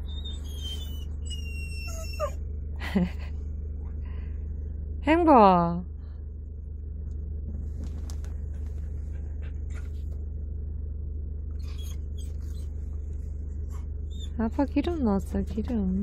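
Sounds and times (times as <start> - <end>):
campervan low rumble: 0.0 - 16.0.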